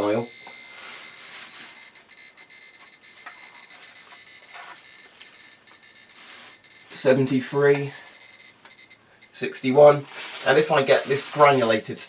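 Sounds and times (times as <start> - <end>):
dosimeter chirping rapid beeps: 0.0 - 11.6.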